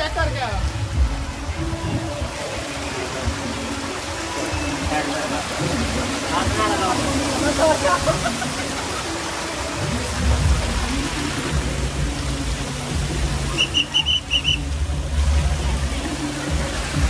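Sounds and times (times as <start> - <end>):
water rushing down a slide: 0.0 - 17.0.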